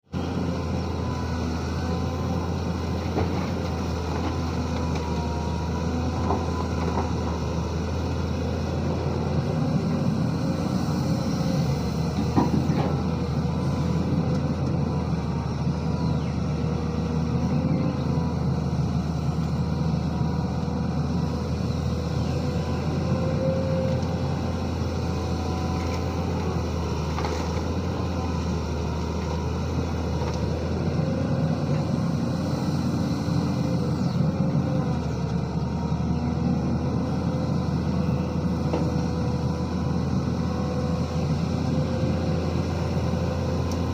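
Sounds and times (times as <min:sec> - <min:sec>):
excavator diesel engine running: 0:00.1 - 0:43.9.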